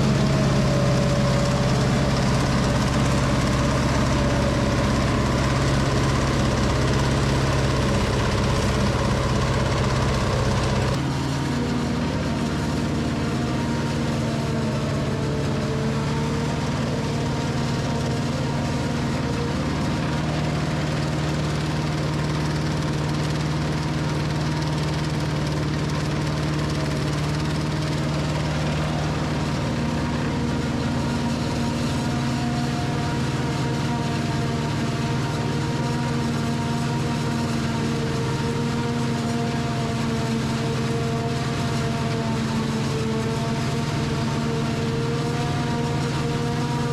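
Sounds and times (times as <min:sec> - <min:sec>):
forage harvester machinery drone: 0:00.0 - 0:46.9.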